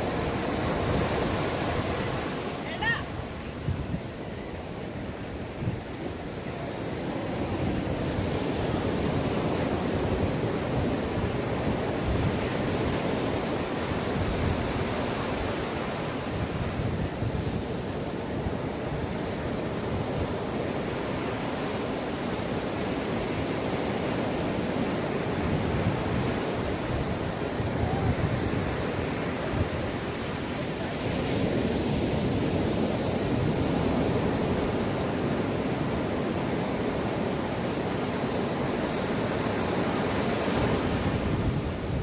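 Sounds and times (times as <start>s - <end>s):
ocean waves breaking: 0.0s - 42.0s
wind on microphone: 0.0s - 42.0s.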